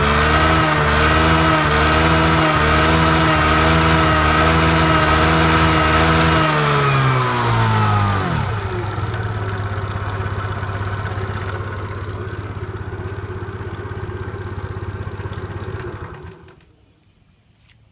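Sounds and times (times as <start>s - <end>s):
scooter engine revving and idling: 0.0s - 16.6s.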